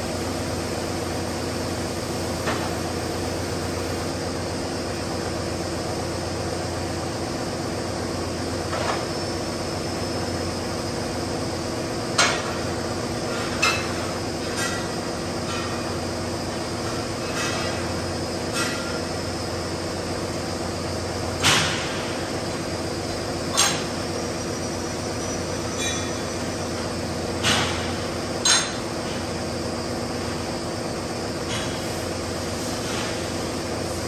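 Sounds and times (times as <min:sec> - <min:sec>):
factory machinery humming: 0:00.0 - 0:34.0.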